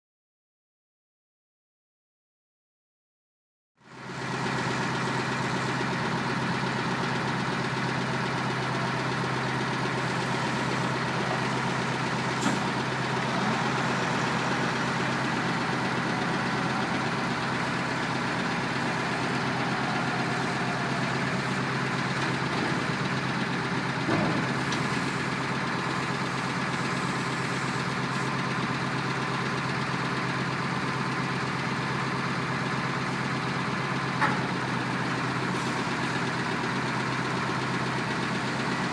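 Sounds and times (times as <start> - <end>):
truck engine idling: 3.8 - 38.9.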